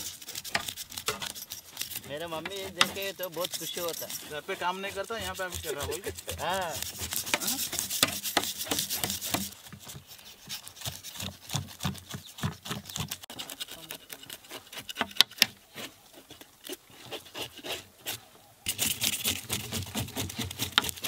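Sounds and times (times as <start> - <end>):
knife scraping fish scales: 0.0 - 21.0.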